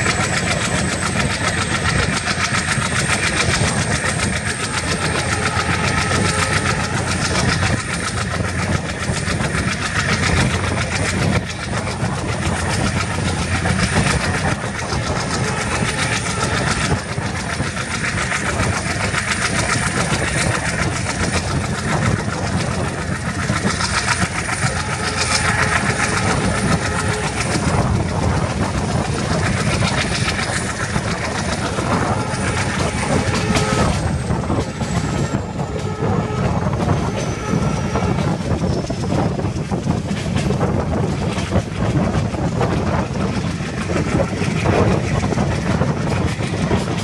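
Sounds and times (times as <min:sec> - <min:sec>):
train wheels rumbling and clattering: 0:00.0 - 0:47.0.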